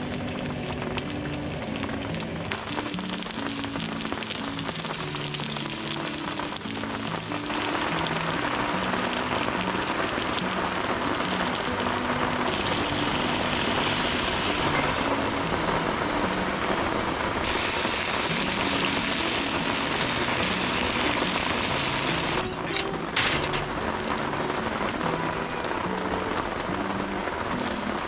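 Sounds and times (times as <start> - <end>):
faint background music: 0.0 - 28.0
heavy rain on tent: 0.0 - 28.0.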